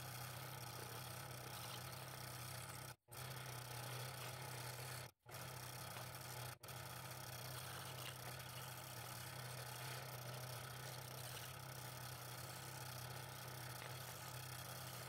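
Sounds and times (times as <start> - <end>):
scroll saw cutting wood: 0.0 - 15.0.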